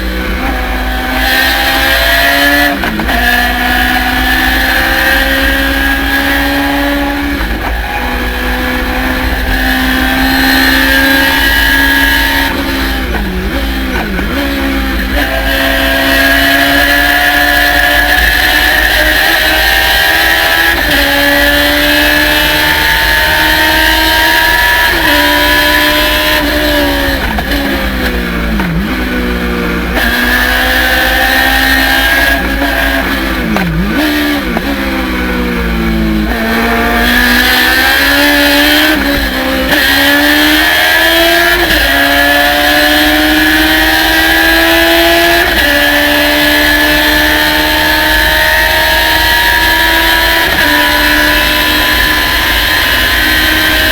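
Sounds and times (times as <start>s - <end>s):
race car engine accelerating: 0.0s - 53.9s.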